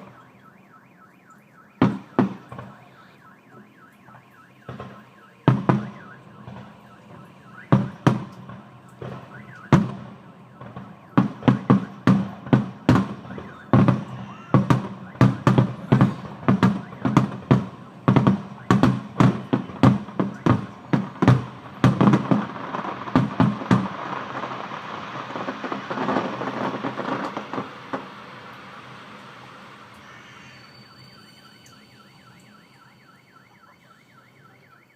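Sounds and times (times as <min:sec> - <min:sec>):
fireworks crackling: 0:00.0 - 0:34.7
fireworks banging: 0:01.8 - 0:33.1.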